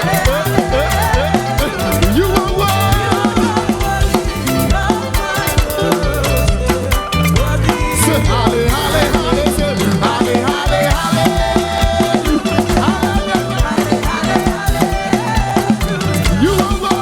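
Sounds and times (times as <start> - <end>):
gospel music with drums and bass: 0.0 - 17.0
person singing: 0.0 - 17.0.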